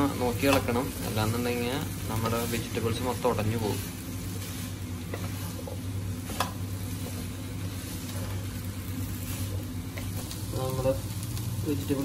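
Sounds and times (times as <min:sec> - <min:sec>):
wooden spatula stirring vegetables: 0:00.0 - 0:10.7
light sizzle in a pan: 0:00.0 - 0:12.0.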